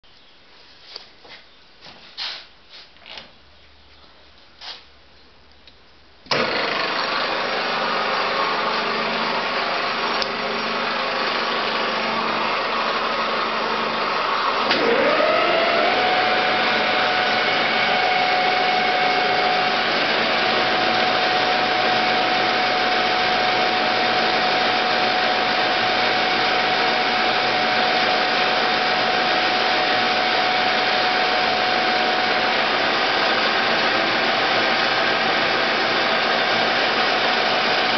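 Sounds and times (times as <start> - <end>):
lathe whine rising in pitch: 6.3 - 37.9
metal lathe running: 6.3 - 37.9.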